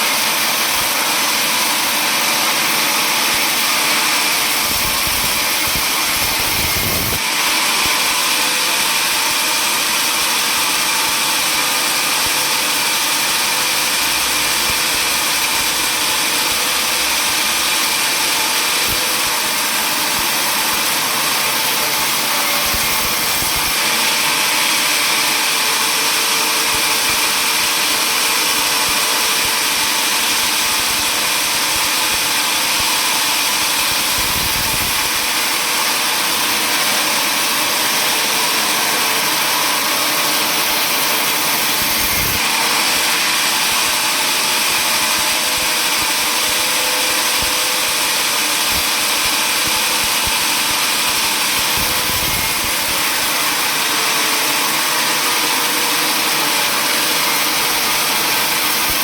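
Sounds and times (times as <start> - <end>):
sawmill saw humming: 0.0 - 59.0.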